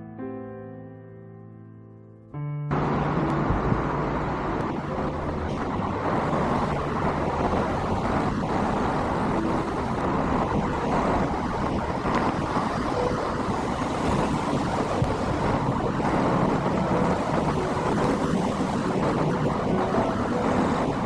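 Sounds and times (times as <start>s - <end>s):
piano piece: 0.0s - 21.0s
outdoor rushing noise: 2.7s - 21.0s.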